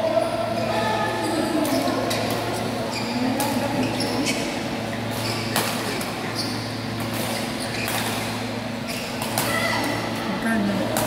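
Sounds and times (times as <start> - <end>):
steady hall hum: 0.0 - 11.0
shoes squeaking on court floor: 0.5 - 10.0.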